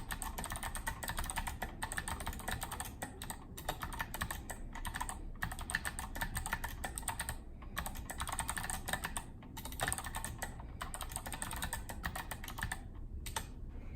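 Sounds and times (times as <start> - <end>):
clicky keyboard typing: 0.0 - 13.6.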